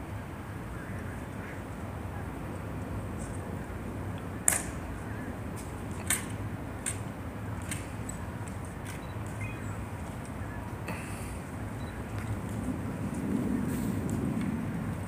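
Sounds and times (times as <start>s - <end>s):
hushed crowd hum: 0.0s - 15.0s.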